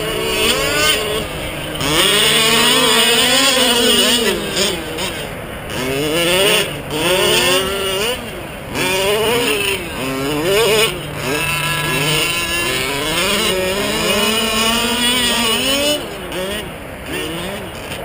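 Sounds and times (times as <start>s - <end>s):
small two-stroke engines revving: 0.0s - 18.0s.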